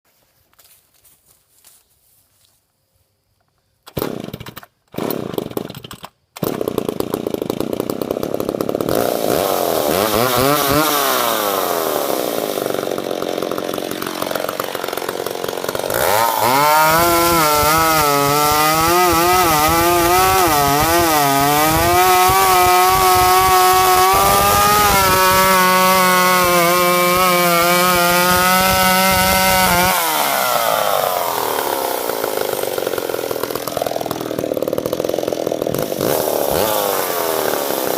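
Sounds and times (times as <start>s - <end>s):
chainsaw starting and revving: 3.9s - 37.9s.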